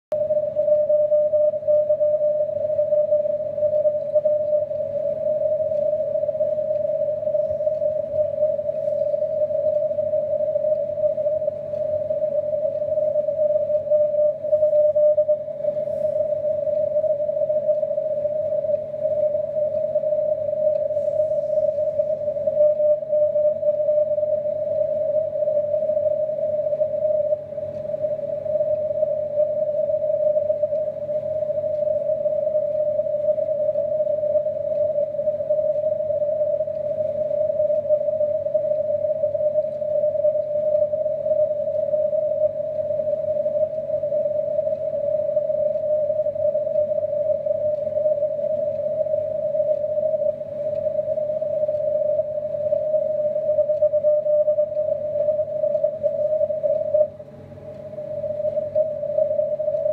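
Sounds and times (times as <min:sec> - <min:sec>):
hissy radio tone: 0:00.1 - 0:59.9.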